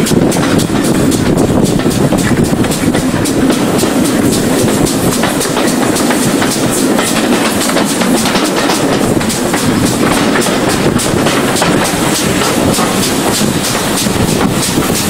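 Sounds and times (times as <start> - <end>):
train rumbling: 0.0 - 15.0
wheels clicking over rail joints: 0.0 - 15.0.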